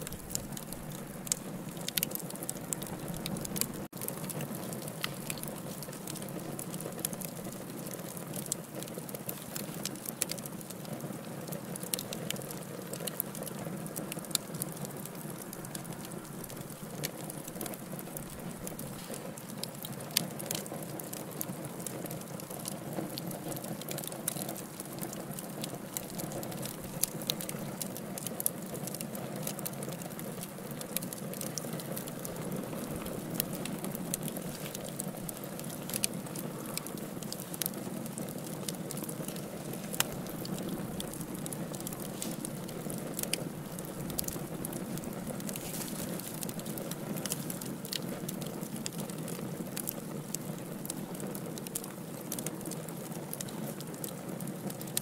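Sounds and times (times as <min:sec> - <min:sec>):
fire flames rushing: 0:00.0 - 0:54.6
fire crackling and popping: 0:00.0 - 0:55.0.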